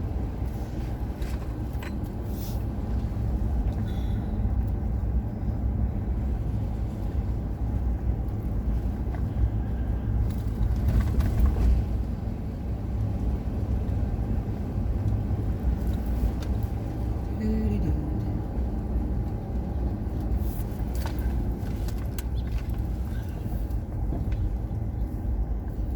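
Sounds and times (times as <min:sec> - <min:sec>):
car road rumble: 0:00.0 - 0:25.9.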